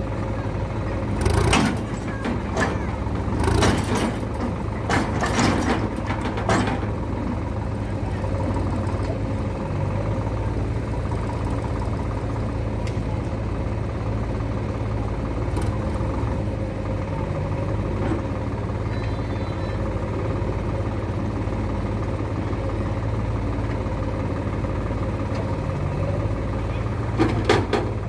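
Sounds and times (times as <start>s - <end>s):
diesel tractor engine idling: 0.0s - 28.0s.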